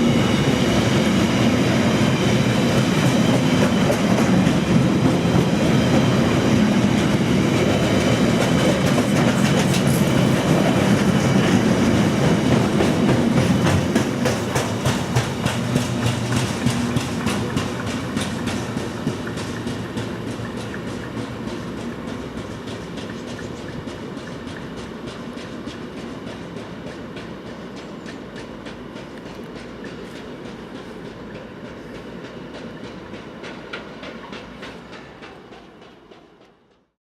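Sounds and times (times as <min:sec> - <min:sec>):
low locomotive engine hum: 0:00.0 - 0:36.9
train wheels clickety-clack: 0:00.0 - 0:37.0.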